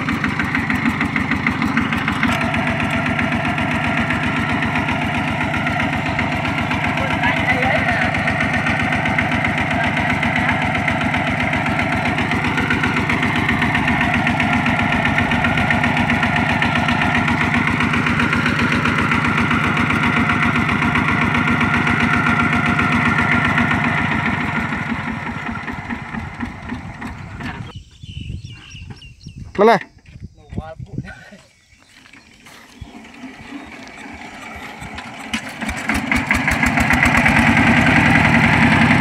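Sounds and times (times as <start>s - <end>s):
diesel engine idling: 0.0s - 27.7s, 32.0s - 39.0s.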